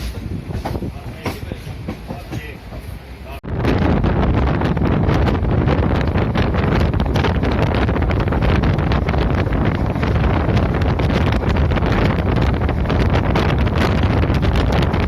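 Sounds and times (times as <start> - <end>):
train running rumble: 0.0 - 15.0
wind buffeting microphone: 0.0 - 15.0.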